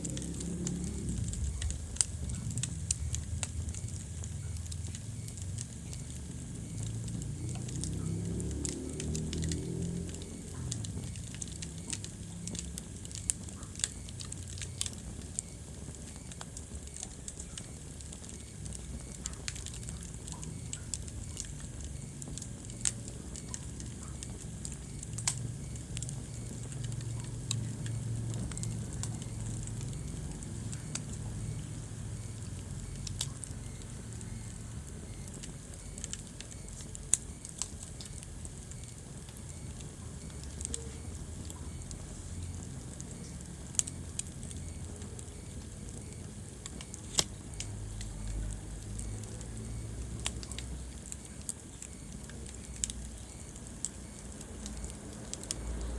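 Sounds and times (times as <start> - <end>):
fire crackling and popping: 0.0 - 55.9
low rumble of flames: 0.0 - 55.9.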